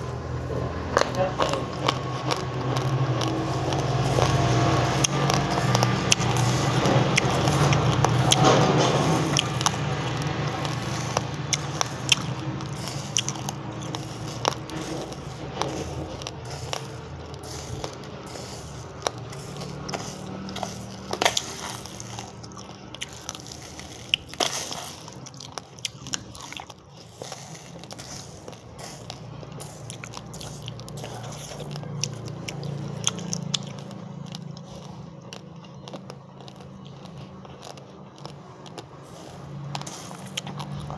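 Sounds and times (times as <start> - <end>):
chewing raw rice crunching: 0.0 - 40.9.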